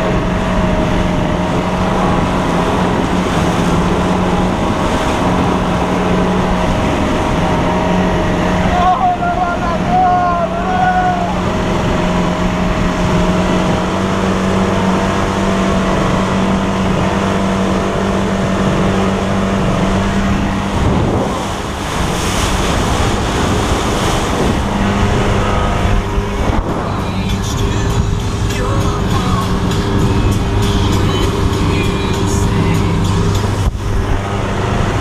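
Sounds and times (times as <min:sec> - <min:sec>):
motorboat engine hum: 0:00.0 - 0:35.0
water rushing off hull: 0:00.0 - 0:35.0
wind buffeting microphone: 0:00.0 - 0:35.0.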